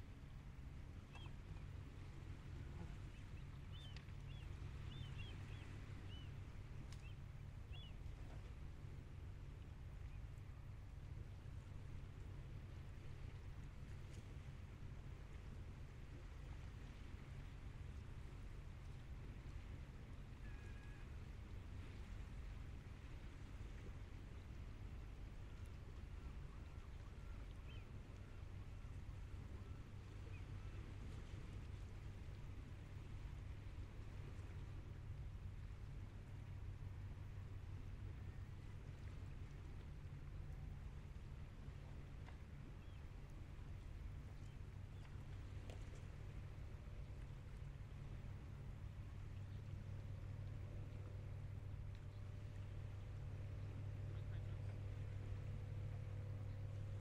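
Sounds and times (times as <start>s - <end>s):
faint low rumble: 0.0s - 57.0s.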